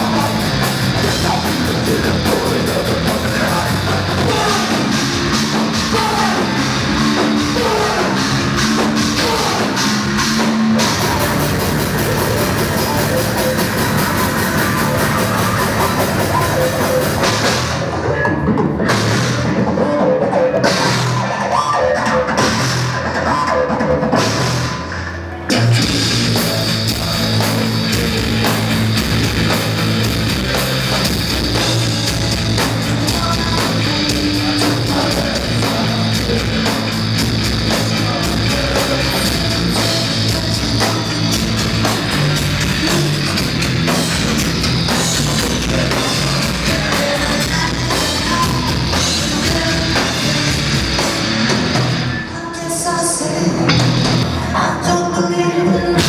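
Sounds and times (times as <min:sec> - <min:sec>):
loud heavy rock band: 0:00.0 - 0:56.0.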